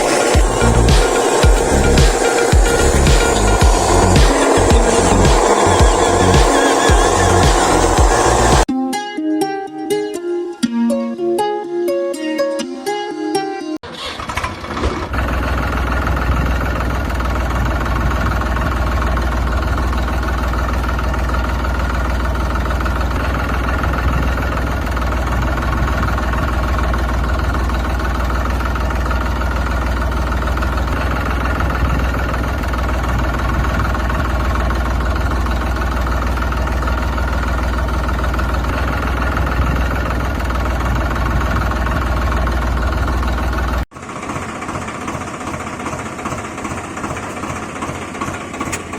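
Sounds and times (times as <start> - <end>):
engine chugging steadily: 0.0 - 8.7, 14.3 - 48.9.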